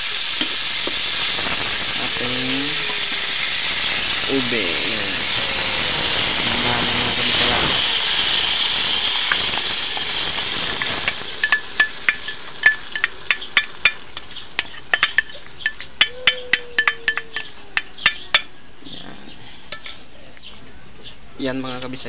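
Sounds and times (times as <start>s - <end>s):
sharp crackling pops: 0.0s - 18.8s
mixture sizzling in hot fat: 0.0s - 19.0s.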